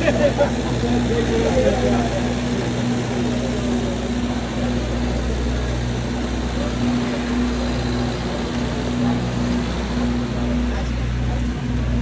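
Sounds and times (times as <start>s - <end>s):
passenger train running: 0.0s - 12.0s.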